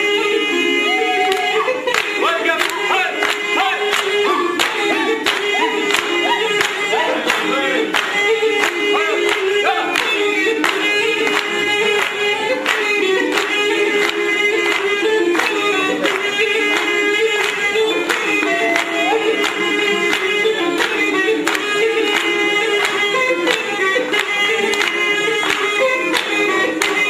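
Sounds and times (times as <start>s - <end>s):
double-reed pipe melody: 0.0s - 27.0s
people singing: 0.0s - 27.0s
hand claps: 1.2s - 27.0s.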